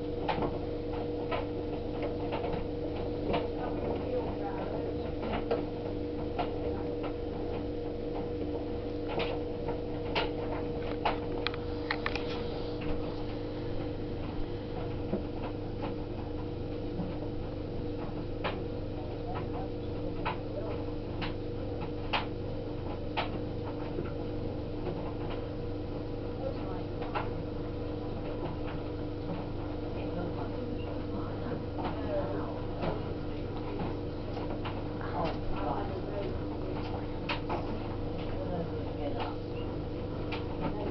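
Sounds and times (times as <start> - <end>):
tumble dryer motor hum: 0.0 - 40.9.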